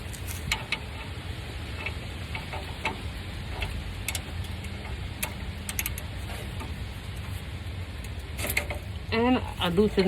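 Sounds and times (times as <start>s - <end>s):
ratchet clicking: 0.0s - 7.4s, 8.0s - 9.0s.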